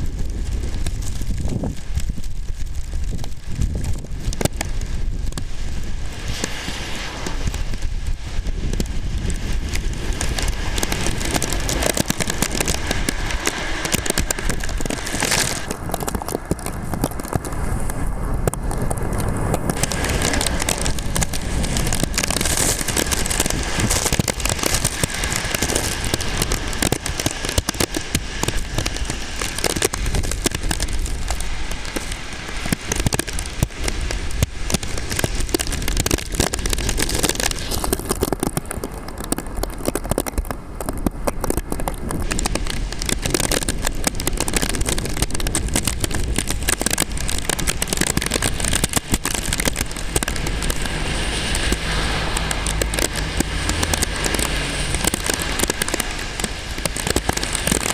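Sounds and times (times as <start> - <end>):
rain crackling and spattering: 0.0 - 57.9
wind buffeting microphone: 0.0 - 57.9.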